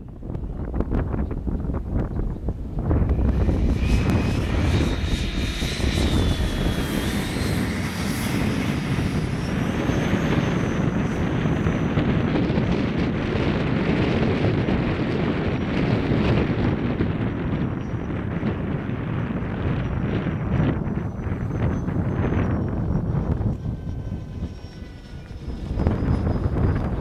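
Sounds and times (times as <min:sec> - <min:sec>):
electric ducted fan whine: 0:00.0 - 0:27.0.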